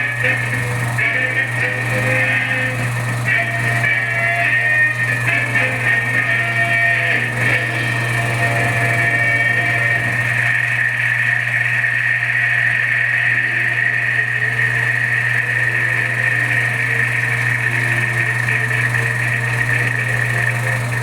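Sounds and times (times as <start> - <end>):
film projector whirring: 0.0 - 21.0.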